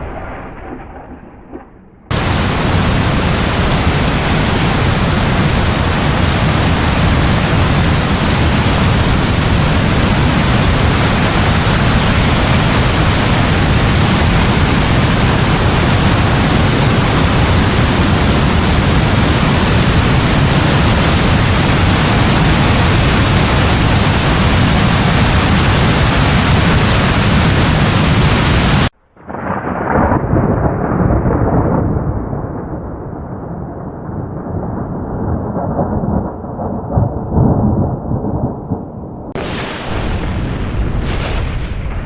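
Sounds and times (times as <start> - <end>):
heavy rain pouring: 2.1 - 34.4, 39.3 - 42.0.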